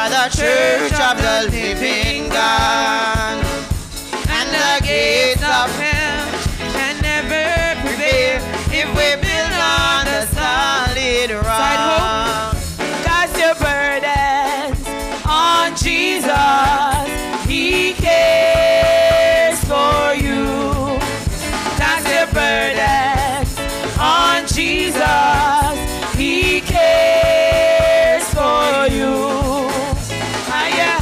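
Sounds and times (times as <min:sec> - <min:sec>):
gospel chorus singing: 0:00.0 - 0:14.6, 0:15.2 - 0:31.0
band with steady beat: 0:00.0 - 0:31.0.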